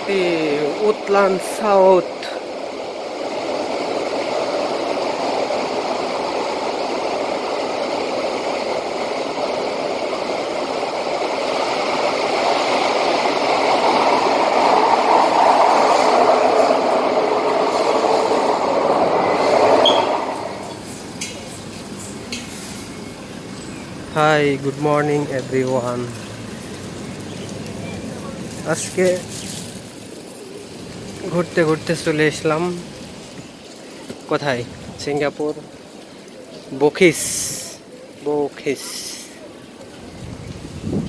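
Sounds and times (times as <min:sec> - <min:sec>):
train rumbling from inside carriage: 0:00.0 - 0:41.0.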